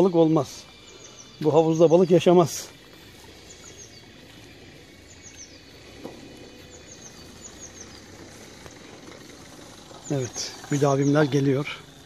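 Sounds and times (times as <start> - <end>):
low outdoor background hum: 0.0 - 12.0
small birds chirping: 0.0 - 12.0.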